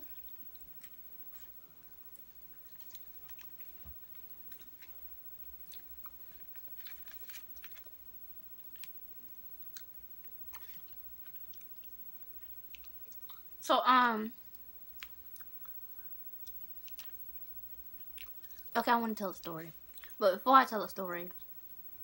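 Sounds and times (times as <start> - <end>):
person chewing: 0.0 - 13.6, 14.4 - 18.7, 19.7 - 20.2.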